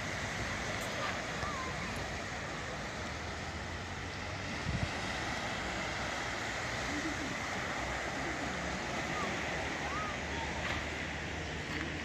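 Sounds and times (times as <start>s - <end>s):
sea surf: 0.0s - 12.0s
wind: 0.0s - 12.0s.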